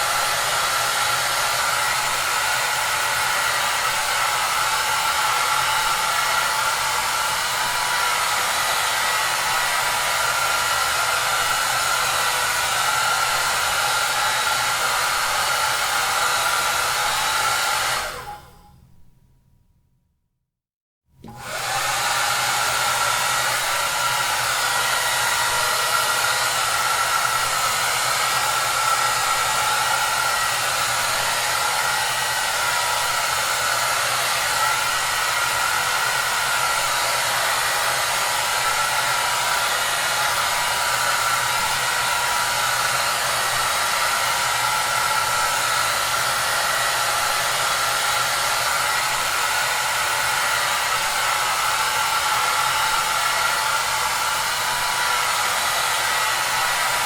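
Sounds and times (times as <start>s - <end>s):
hair dryer running: 0.0s - 18.7s, 21.2s - 57.0s.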